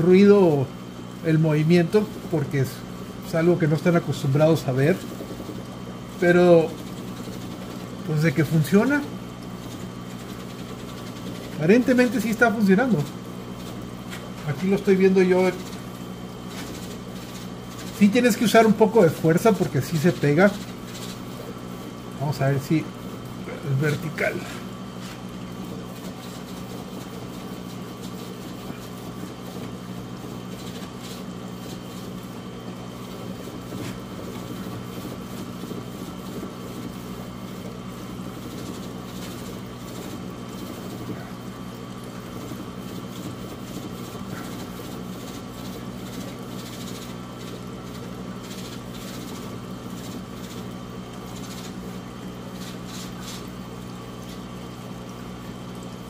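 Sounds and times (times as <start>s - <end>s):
low mechanical hum: 0.0s - 56.0s
algae cleaner scraping aquarium glass: 1.3s - 56.0s.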